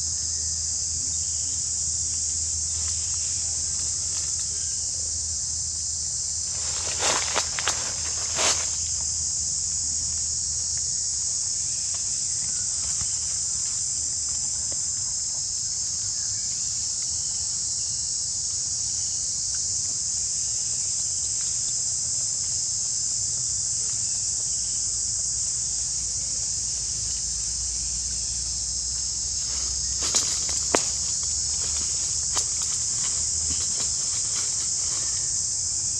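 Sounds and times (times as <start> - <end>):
insect chorus drone: 0.0 - 35.9.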